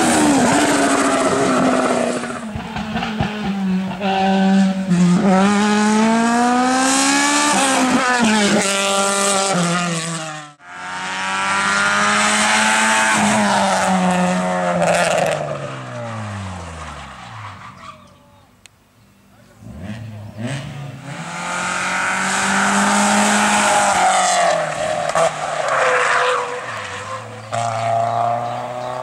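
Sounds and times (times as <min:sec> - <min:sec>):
race car passing at high revs: 0:00.0 - 0:17.0, 0:19.6 - 0:29.0
race car engine at full throttle: 0:00.0 - 0:17.1, 0:19.4 - 0:29.0.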